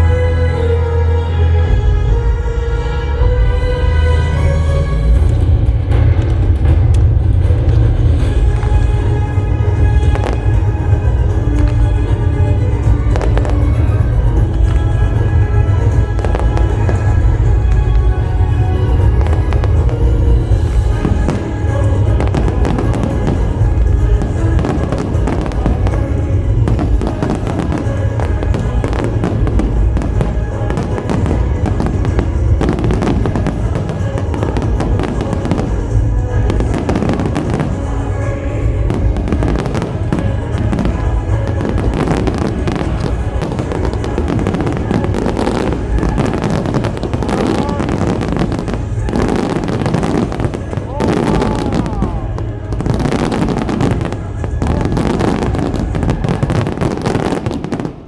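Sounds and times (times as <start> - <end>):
music playing: 0.0 - 58.0
low rumble: 1.6 - 46.2, 47.0 - 49.2, 50.6 - 53.1
fireworks bursting: 5.2 - 58.0.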